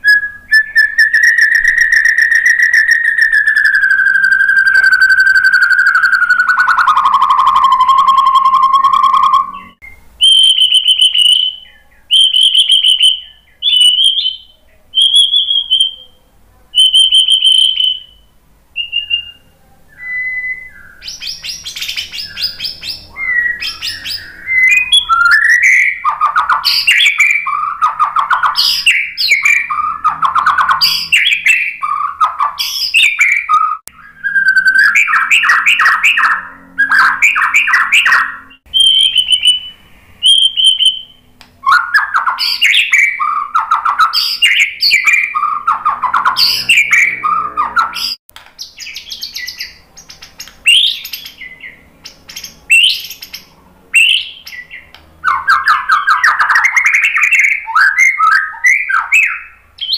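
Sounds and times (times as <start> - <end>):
bird song with buzzy trills: 0.0 - 59.9.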